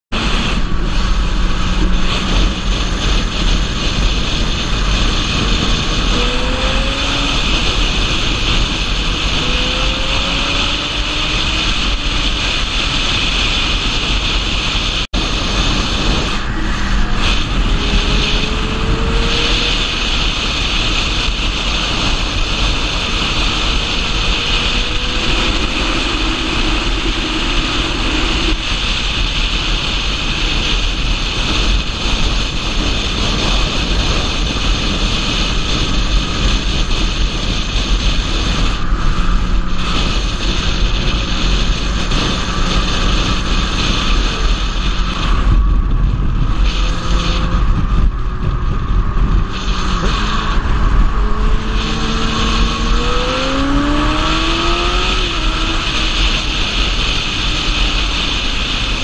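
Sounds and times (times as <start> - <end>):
motorcycle engine revving: 0.1 - 59.0
wind rushing over microphone: 0.1 - 59.0.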